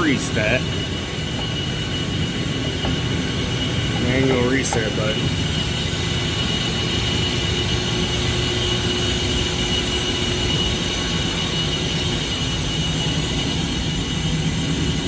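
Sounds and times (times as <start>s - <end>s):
hvac equipment drone: 0.0s - 15.0s
thin high whine: 0.0s - 15.0s.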